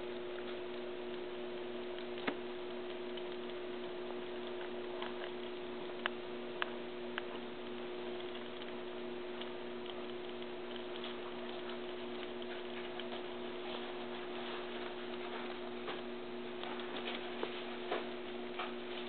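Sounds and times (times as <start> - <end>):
squirrels gnawing nuts: 0.0 - 19.0
steady electrical hum: 0.0 - 19.0.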